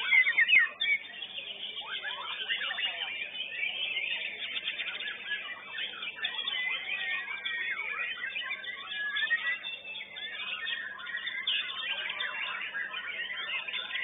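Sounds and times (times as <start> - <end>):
bird singing whistled phrases: 0.0 - 14.0
chatter of many songbirds: 0.0 - 14.0.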